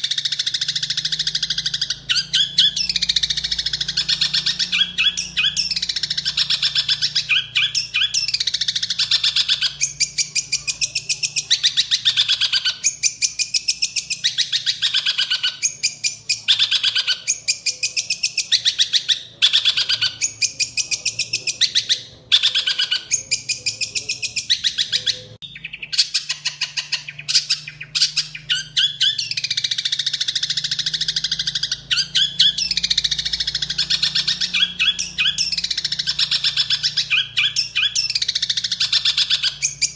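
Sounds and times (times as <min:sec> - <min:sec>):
shrike singing harsh chattering: 0:00.0 - 0:39.9.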